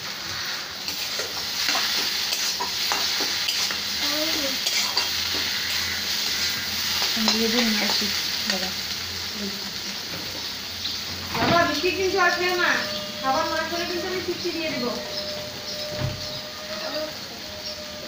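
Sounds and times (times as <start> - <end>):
greens sizzling in oil: 0.0 - 18.0.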